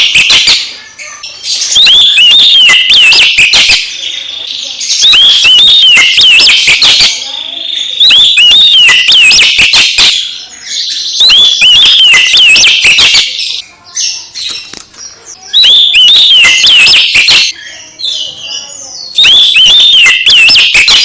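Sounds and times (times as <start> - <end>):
bird singing: 0.0 - 21.0.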